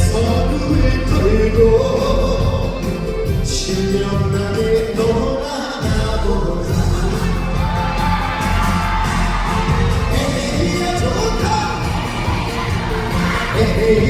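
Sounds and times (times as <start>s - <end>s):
live band backing: 0.0s - 14.0s.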